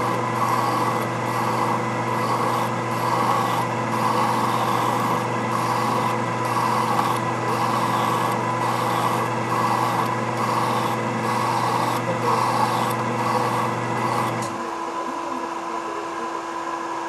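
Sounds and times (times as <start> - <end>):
hand file rasping on metal: 0.0 - 14.5
lathe motor hum: 0.0 - 17.0.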